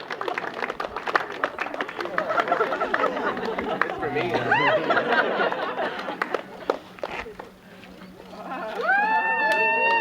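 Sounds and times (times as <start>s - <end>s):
people clapping: 0.0s - 10.0s.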